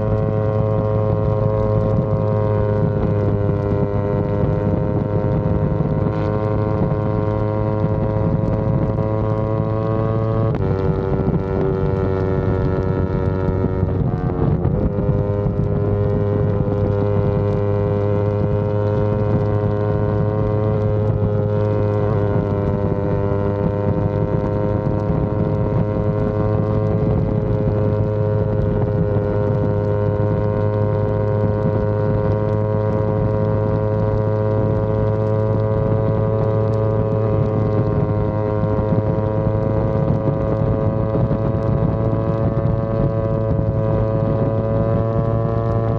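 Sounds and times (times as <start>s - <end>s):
motorcycle engine at high revs: 0.0s - 45.9s.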